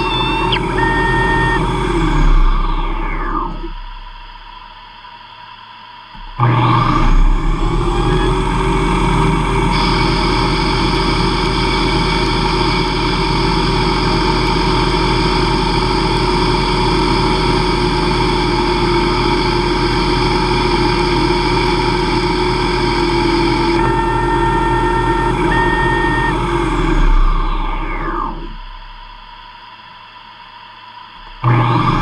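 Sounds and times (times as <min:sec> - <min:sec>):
lathe machine whine: 0:00.0 - 0:32.0
low hum: 0:00.0 - 0:32.0.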